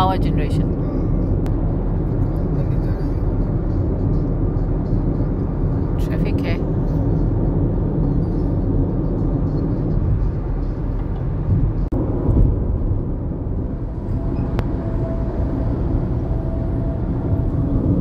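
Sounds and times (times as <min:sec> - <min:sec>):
road and tyre rumble: 0:00.0 - 0:18.0.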